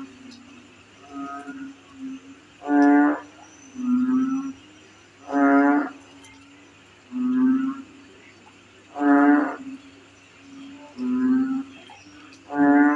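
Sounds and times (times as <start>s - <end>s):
crickets chirring: 0.0s - 12.9s
frogs calling: 0.0s - 12.9s.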